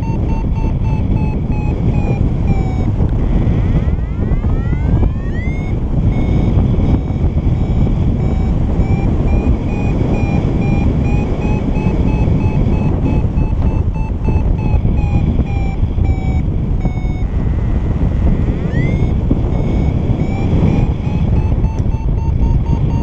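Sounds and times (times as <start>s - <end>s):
rising gliding tone: 0.0s - 23.0s
variometer beeping rapidly: 0.0s - 23.0s
wind on microphone: 0.0s - 23.0s.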